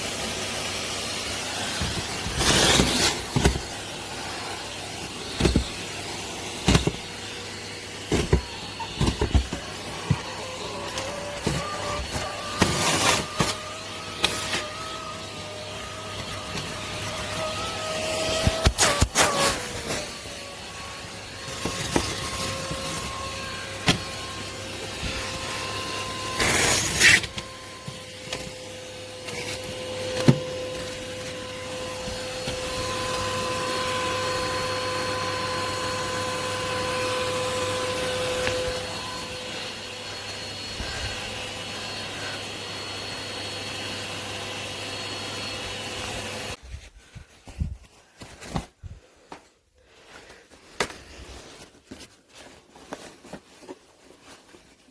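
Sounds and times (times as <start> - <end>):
vacuum cleaner running: 0.0 - 46.6.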